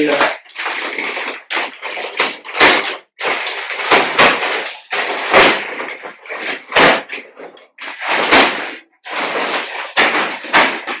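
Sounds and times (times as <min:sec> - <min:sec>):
plastic wrapping tearing and crinkling: 0:00.0 - 0:11.0.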